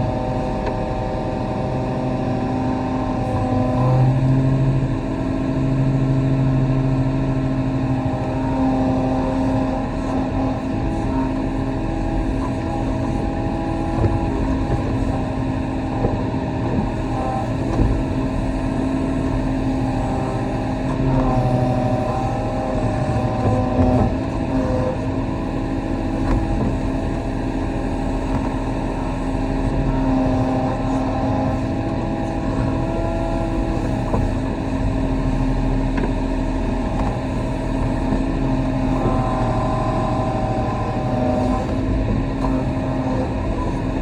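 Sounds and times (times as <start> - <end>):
excavator diesel engine running: 0.0 - 44.0
hydraulic whining: 0.0 - 44.0.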